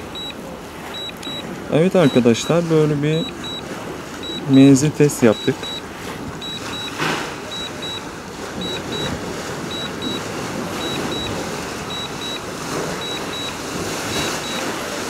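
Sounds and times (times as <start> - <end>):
remote controller double beeps: 0.0 - 5.8, 6.4 - 14.8
outdoor background noise: 0.0 - 15.0.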